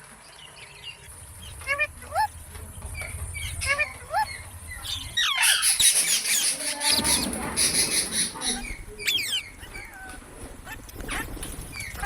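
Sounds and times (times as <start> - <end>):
parrots squawking and chirping: 1.0 - 12.0.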